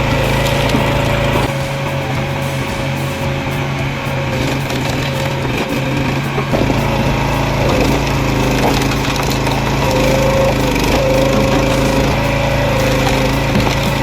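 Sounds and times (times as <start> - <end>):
deep heavy engine rumble: 0.0 - 14.0
log splitter engine running: 0.0 - 14.0.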